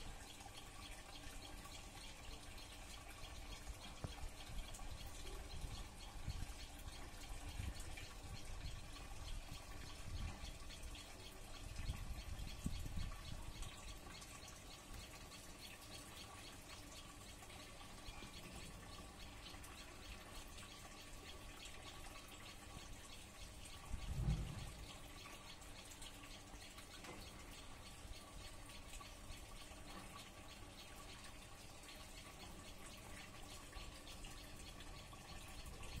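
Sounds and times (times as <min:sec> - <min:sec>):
faint high-pitched ticking: 0:00.0 - 0:36.0.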